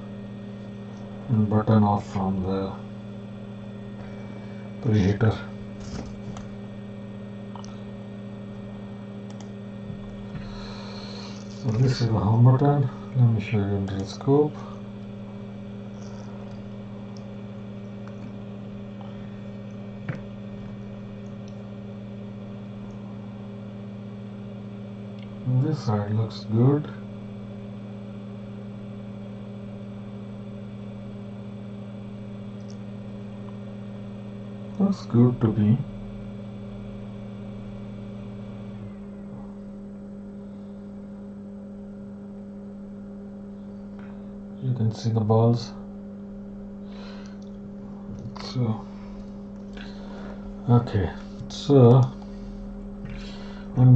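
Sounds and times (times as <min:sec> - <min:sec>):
electrical hum: 0:00.0 - 0:53.9
low electrical tone: 0:00.0 - 0:53.9.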